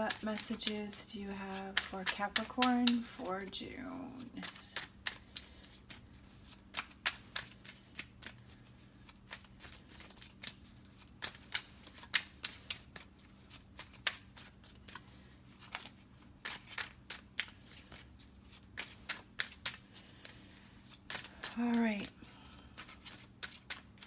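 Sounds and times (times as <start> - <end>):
cards being shuffled: 0.0 - 24.0.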